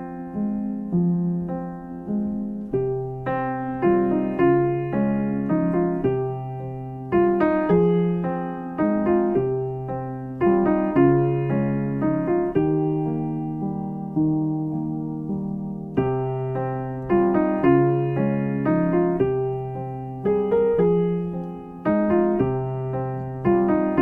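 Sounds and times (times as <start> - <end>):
soft piano chords and melody: 0.0 - 24.0.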